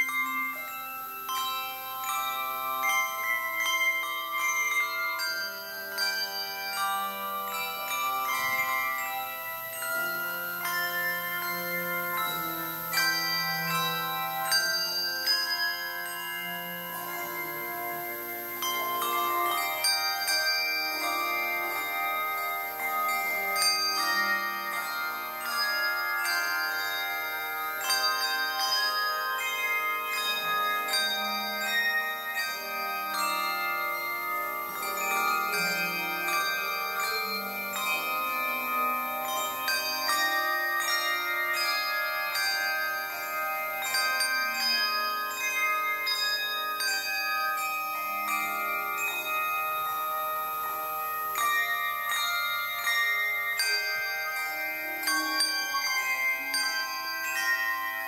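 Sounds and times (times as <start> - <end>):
handbell choir playing: 0.0 - 58.0.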